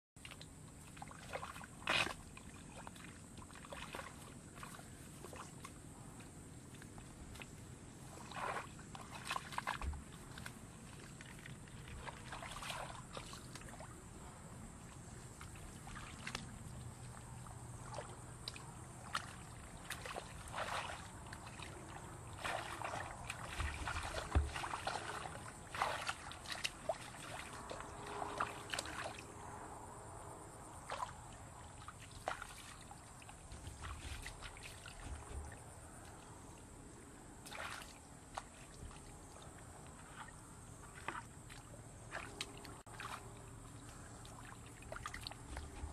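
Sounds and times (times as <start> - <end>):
hands splashing in muddy water: 0.2 - 5.8, 6.7 - 14.0, 14.8 - 29.2, 31.8 - 35.6, 37.4 - 39.1, 40.0 - 45.9.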